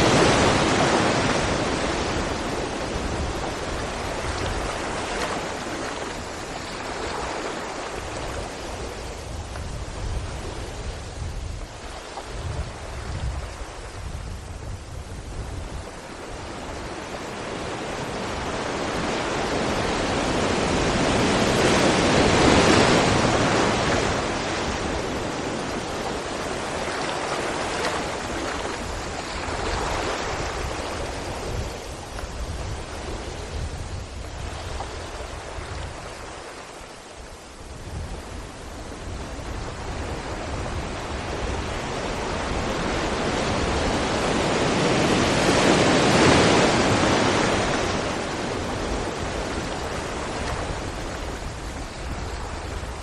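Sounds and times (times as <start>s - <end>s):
sea waves breaking against rocks: 0.0s - 36.7s, 39.0s - 53.0s.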